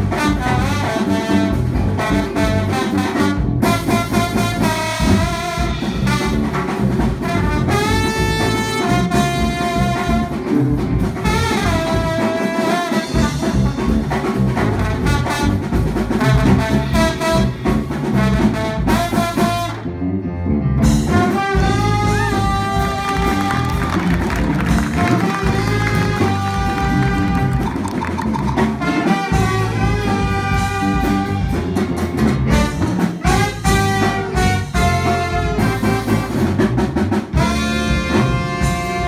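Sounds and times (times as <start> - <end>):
drum kit: 0.0 - 39.0
electric bass: 0.0 - 39.0
trombone: 0.0 - 39.0.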